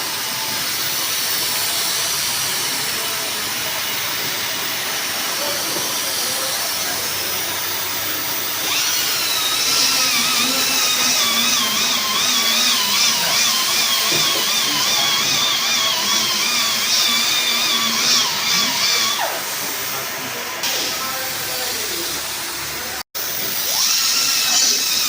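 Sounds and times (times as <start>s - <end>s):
power tool whining: 0.0s - 25.0s.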